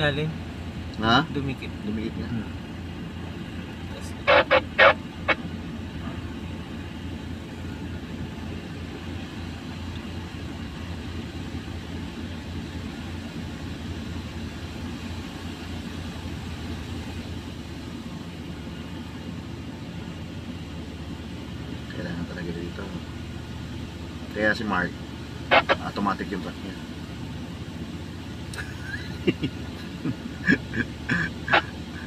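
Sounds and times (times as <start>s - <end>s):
vehicle engines idling: 0.0s - 32.0s.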